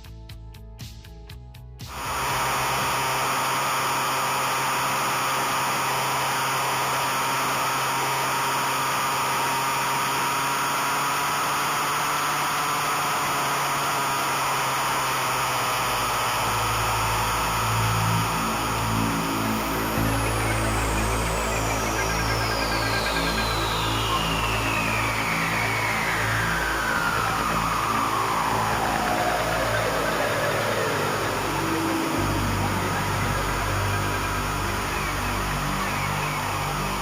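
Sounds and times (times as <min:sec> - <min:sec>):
motorcycle engine: 0:01.8 - 0:37.0.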